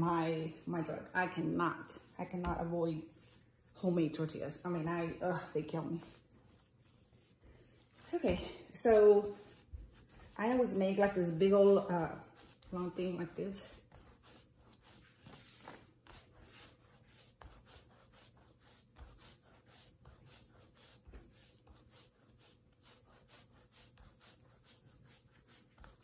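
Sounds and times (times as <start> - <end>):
hands rolling dough on stone: 2.0 - 26.0.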